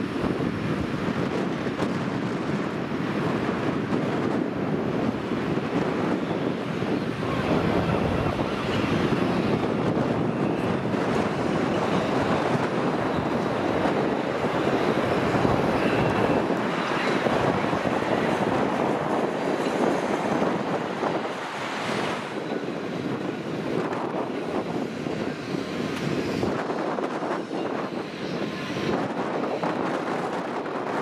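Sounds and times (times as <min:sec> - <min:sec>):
passing road traffic: 0:00.0 - 0:31.0
wind on microphone: 0:00.0 - 0:31.0.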